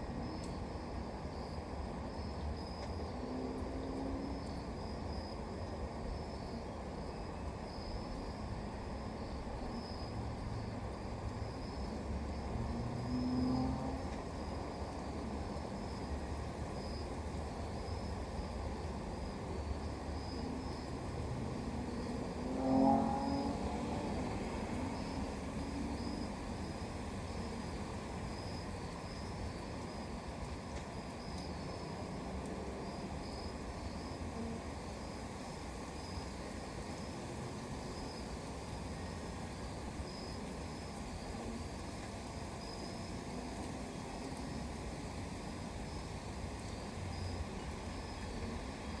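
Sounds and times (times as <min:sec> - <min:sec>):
crickets chirping: 0:00.0 - 0:49.0
distant road traffic hum: 0:08.4 - 0:49.0.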